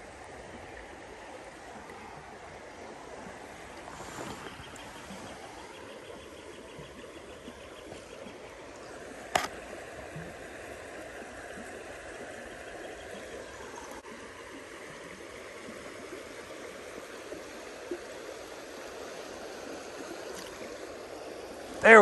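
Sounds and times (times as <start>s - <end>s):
creek rushing: 0.0s - 22.0s.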